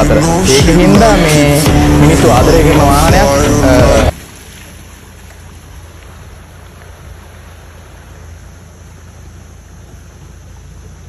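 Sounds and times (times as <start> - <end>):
distant vehicle engine rumble: 0.0 - 11.0
outdoor hiss: 0.0 - 11.0.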